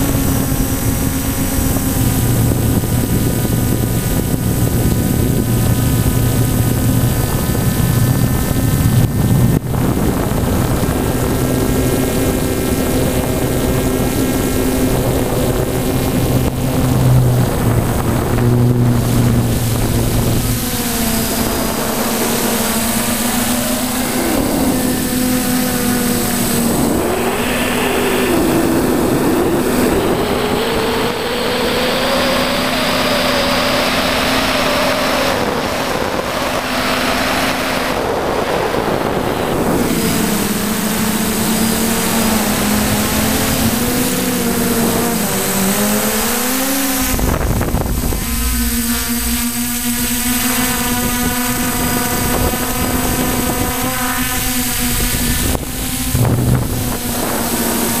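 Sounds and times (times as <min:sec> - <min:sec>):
drone motors whining: 0:00.0 - 0:58.0
wind buffeting microphone: 0:00.0 - 0:58.0.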